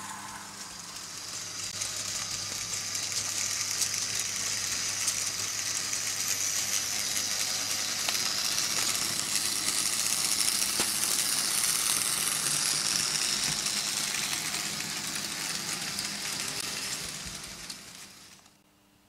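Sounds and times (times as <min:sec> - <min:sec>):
model train wheels rattling on rails: 0:00.0 - 0:18.6.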